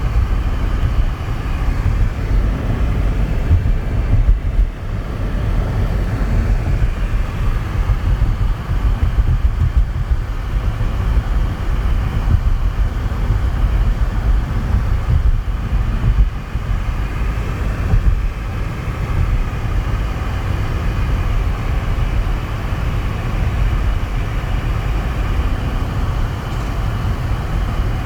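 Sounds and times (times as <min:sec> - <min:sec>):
low buffeting rumble: 0:00.0 - 0:28.0.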